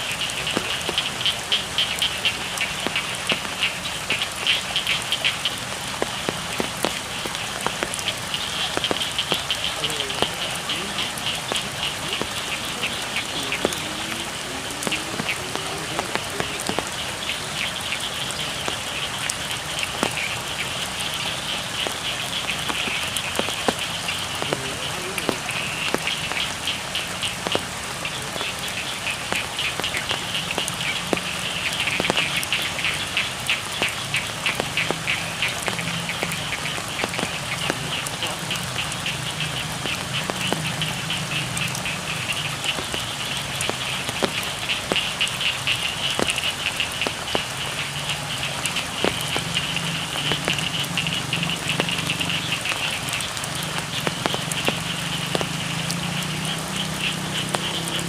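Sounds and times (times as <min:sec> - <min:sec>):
frogs croaking: 0:00.0 - 0:58.0
frogs trilling: 0:00.0 - 0:58.0
rain pattering: 0:00.0 - 0:58.0.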